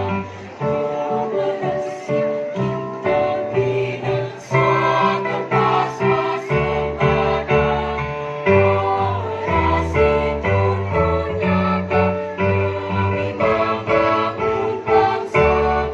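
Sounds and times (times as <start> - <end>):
choir singing: 0.0 - 15.9.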